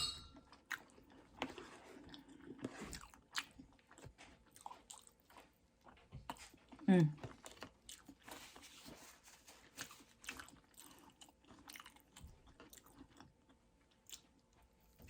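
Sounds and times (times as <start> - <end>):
person chewing food: 0.4 - 15.0.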